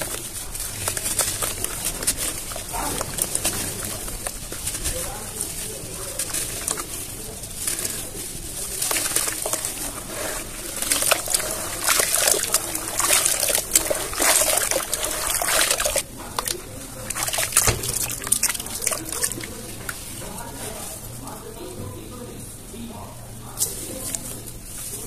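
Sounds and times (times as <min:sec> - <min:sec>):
water sloshing and trickling: 0:00.0 - 0:21.0
cement crackling and crunching: 0:00.0 - 0:21.2.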